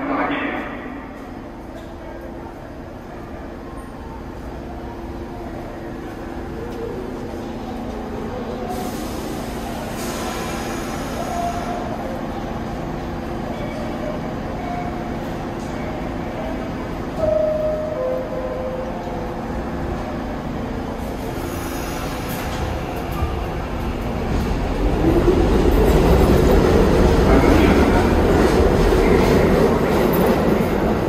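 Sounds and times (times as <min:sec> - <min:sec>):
subway train rumbling on rails: 0:00.0 - 0:31.0.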